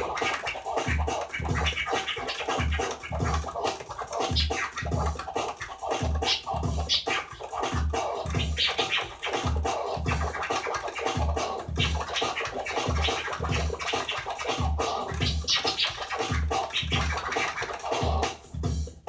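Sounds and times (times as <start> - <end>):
record scratching: 0.0 - 18.6
backing beat with kick drum: 0.0 - 19.0.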